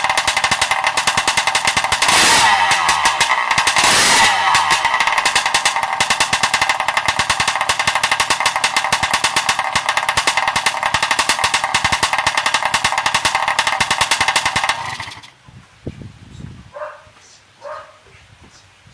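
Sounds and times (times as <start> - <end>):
motorcycle engine idling: 0.0 - 15.4.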